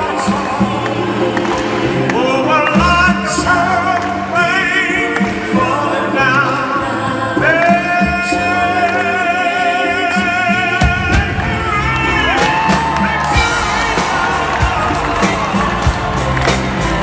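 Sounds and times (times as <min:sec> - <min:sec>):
live band playing: 0:00.0 - 0:17.0
singers with heavy vibrato: 0:00.0 - 0:17.0.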